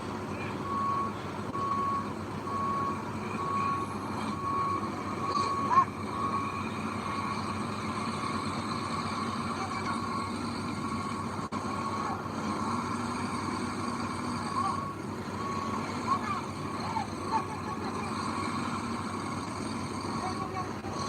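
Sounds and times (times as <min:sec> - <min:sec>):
heavy diesel machinery running: 0:00.0 - 0:21.0
reversing alarm beeping: 0:00.3 - 0:21.0.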